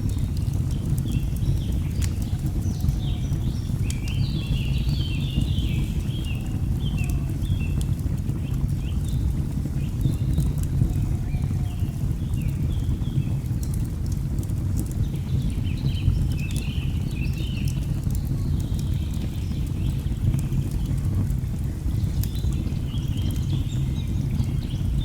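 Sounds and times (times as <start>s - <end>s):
log fire crackling: 0.0s - 25.0s.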